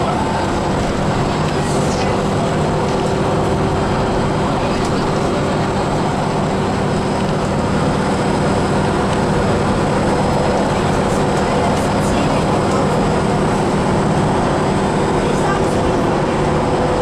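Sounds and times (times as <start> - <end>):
bus engine drone: 0.0 - 17.0
tyre and road noise: 0.0 - 17.0.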